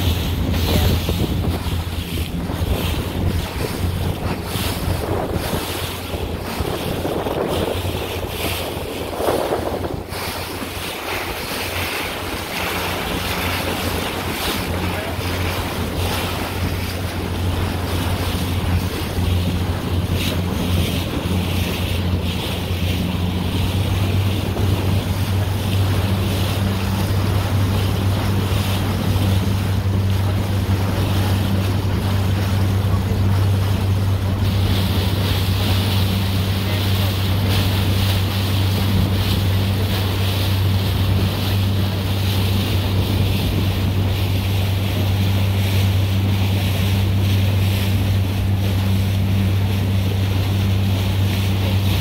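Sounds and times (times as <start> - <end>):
motorboat engine droning: 0.0 - 52.0
water rushing along hull: 0.0 - 52.0
wind buffeting microphone: 0.0 - 52.0.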